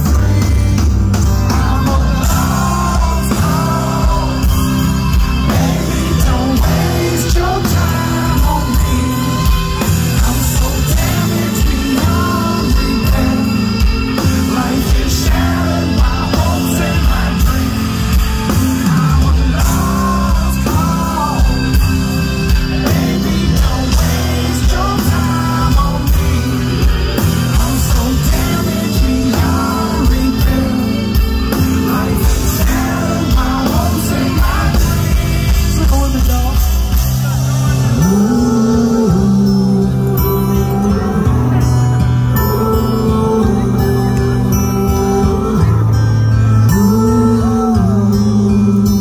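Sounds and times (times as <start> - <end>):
live band music: 0.0 - 49.0
man singing into microphone: 0.0 - 49.0.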